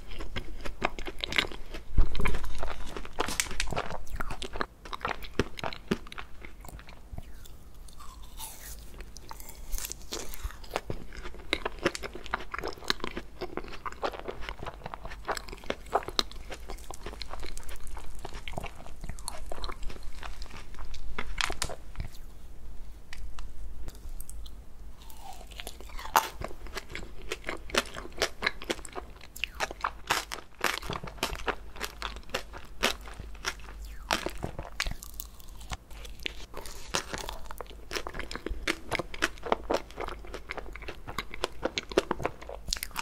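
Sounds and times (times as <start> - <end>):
chewing ice cream cake: 0.0 - 22.2, 23.9 - 43.0.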